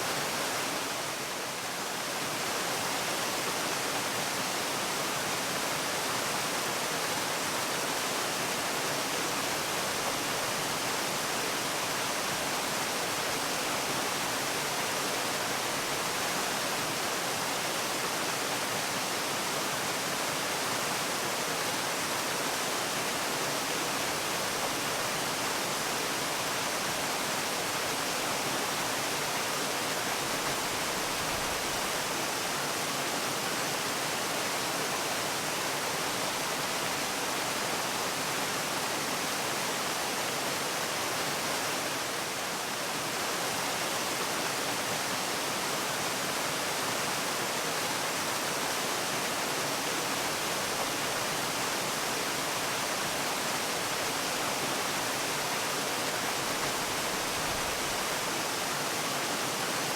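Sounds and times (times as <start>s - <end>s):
rushing falling water: 0.0s - 59.9s.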